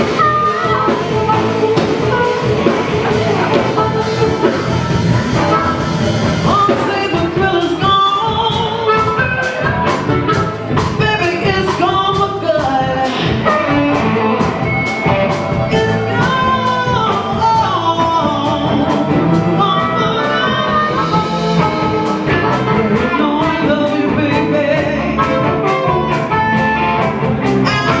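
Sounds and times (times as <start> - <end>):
drums: 0.0 - 28.0
electric guitar: 0.0 - 28.0.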